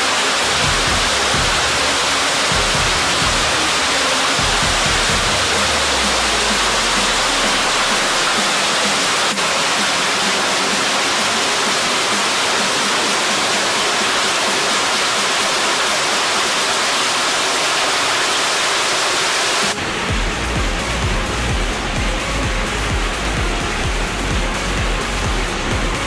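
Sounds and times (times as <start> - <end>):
waterfall rushing into a pool: 0.0 - 26.0.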